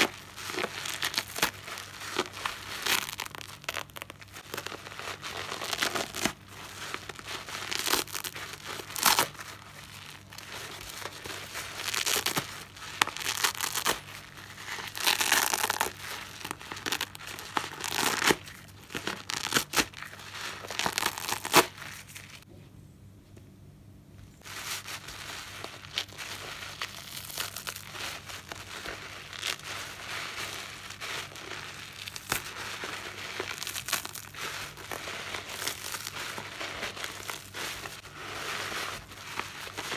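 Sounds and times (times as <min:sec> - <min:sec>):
wet sponge squelching: 0:00.0 - 0:22.1, 0:24.4 - 0:39.9
sponge tearing: 0:00.0 - 0:22.4, 0:24.4 - 0:39.9.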